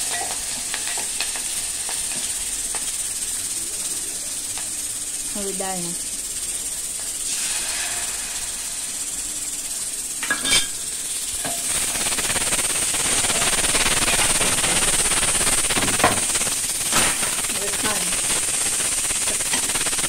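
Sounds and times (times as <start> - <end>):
spices sizzling in oil: 0.0 - 20.0.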